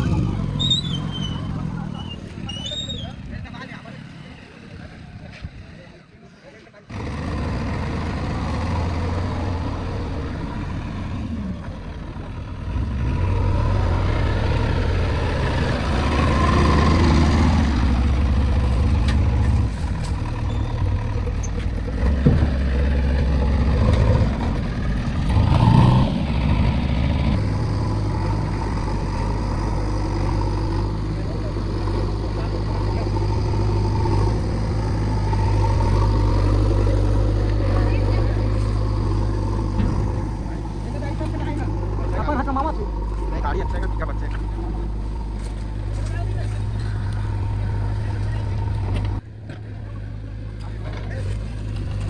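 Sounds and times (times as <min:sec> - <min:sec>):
diesel engine revving: 0:00.0 - 0:06.1, 0:06.8 - 0:52.0.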